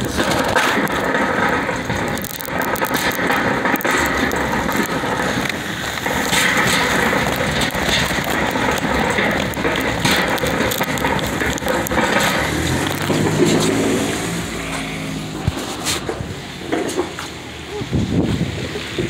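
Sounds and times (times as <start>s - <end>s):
rain on plastic sheet: 0.0s - 19.0s
vehicle engine hum: 0.0s - 19.0s.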